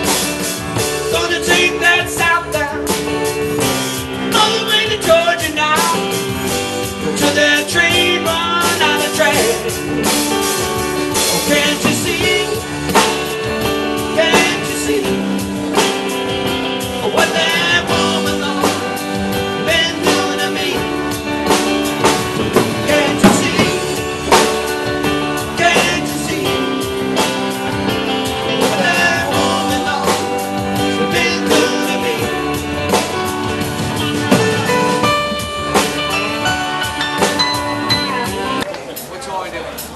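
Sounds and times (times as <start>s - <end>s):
electric guitar: 0.0s - 38.7s
drum kit: 0.0s - 39.9s.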